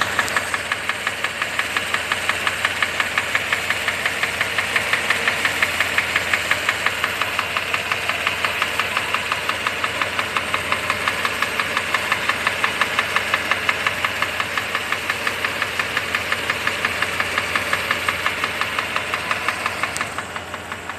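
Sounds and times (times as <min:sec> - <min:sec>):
car engine humming: 0:00.0 - 0:20.9
sharp engine ticking: 0:00.0 - 0:20.9.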